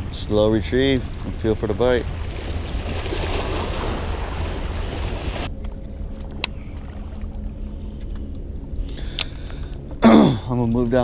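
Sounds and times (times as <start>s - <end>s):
wind rumbling on microphone: 0.0s - 9.8s.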